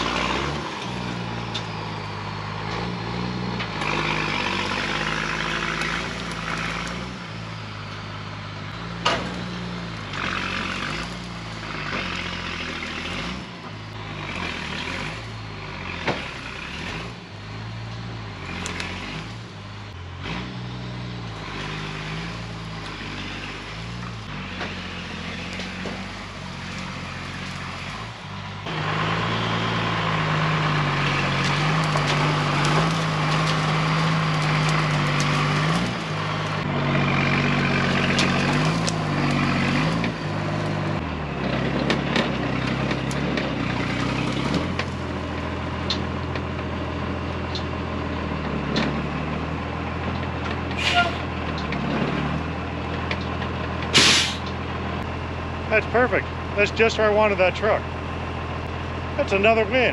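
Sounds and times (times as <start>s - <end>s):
heavy truck engine pulling: 0.0s - 59.9s.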